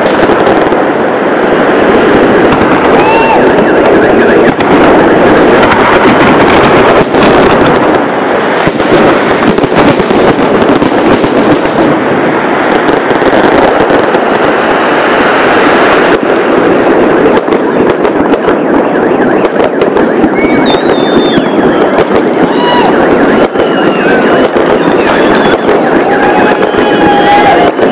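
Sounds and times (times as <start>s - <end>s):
fireworks bursts and crackling: 0.0s - 27.9s.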